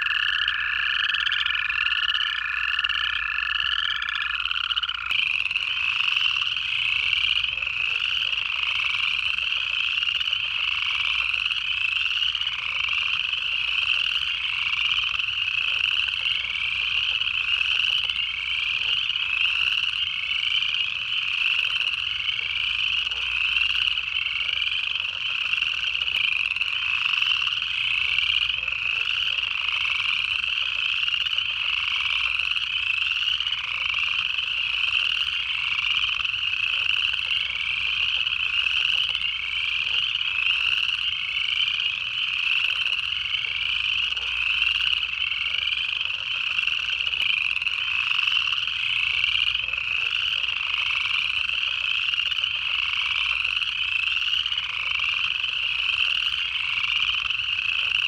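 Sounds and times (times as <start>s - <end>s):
frogs trilling: 0.0s - 58.0s.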